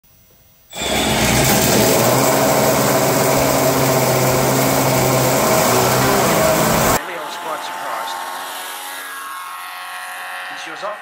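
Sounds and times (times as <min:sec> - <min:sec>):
model aircraft engine running: 0:00.7 - 0:11.0.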